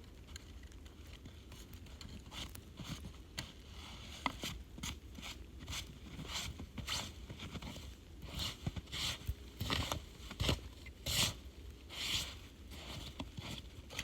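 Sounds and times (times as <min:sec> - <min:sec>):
low steady hum: 0:00.0 - 0:14.0
handling scrapes and rustles: 0:00.2 - 0:14.0.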